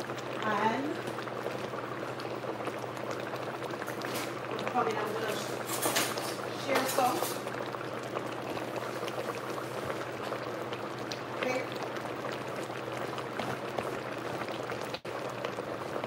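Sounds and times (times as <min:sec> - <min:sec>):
stew bubbles popping: 0:00.0 - 0:16.0.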